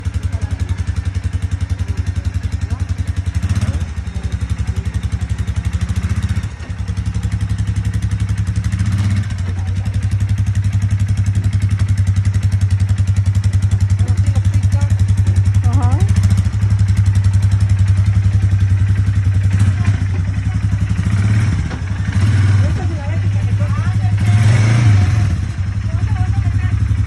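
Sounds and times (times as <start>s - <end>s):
atv engine idling: 0.0s - 27.0s.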